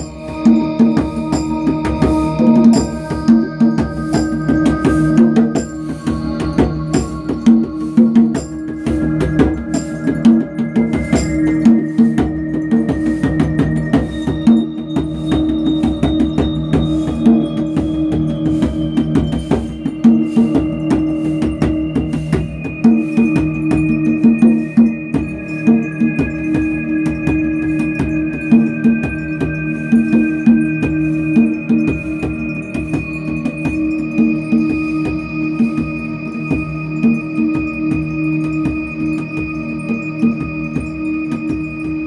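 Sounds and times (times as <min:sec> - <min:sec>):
djembe played with hands: 0:00.0 - 0:42.0.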